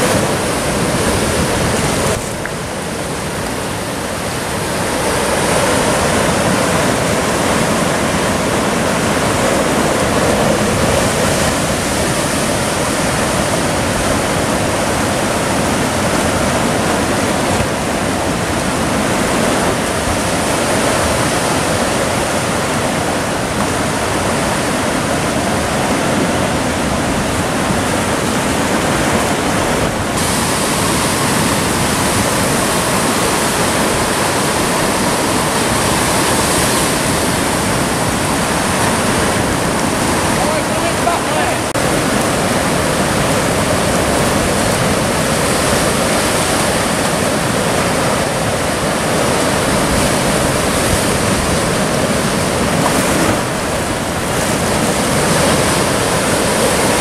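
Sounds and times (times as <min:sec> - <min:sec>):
surf breaking on rocks: 0:00.0 - 0:57.0.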